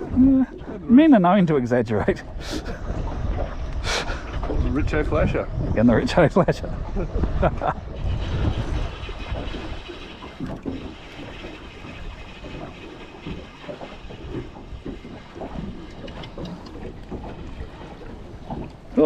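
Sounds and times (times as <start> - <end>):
water lapping around boat: 0.0 - 19.0
wind buffeting microphone: 0.0 - 19.0.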